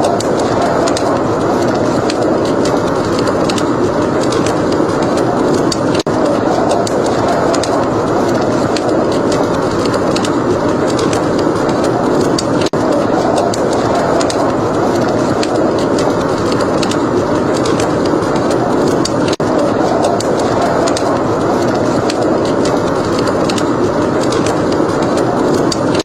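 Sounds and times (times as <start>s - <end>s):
steady rushing noise: 0.0s - 26.0s
wood fire crackling: 0.0s - 26.0s.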